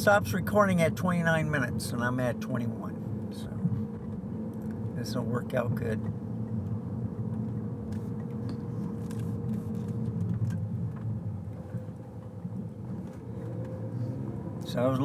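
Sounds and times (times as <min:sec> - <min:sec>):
road and engine noise inside car: 0:00.0 - 0:15.0.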